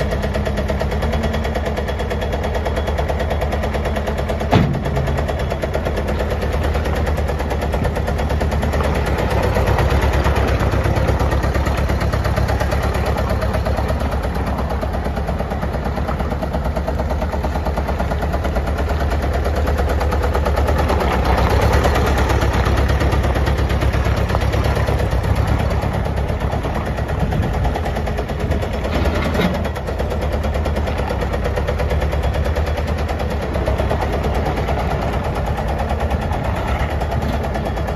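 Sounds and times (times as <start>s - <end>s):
diesel engine pulsing: 0.0s - 37.9s.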